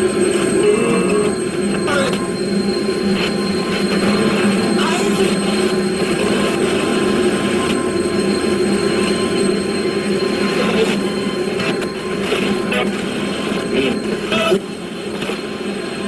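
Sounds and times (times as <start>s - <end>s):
loud roar of dense noise: 0.0s - 16.0s
low drone: 0.0s - 16.0s.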